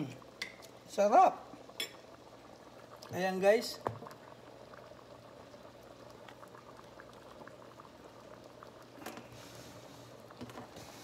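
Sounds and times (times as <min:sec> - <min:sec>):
porridge bubbling and popping: 0:00.0 - 0:11.0.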